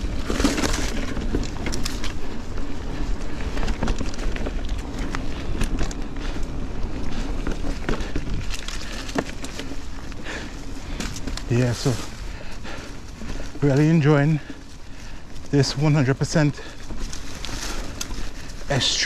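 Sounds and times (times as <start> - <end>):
bike clicks and rattles: 0.0 - 19.0
wind and tyres rumbling: 0.0 - 19.0.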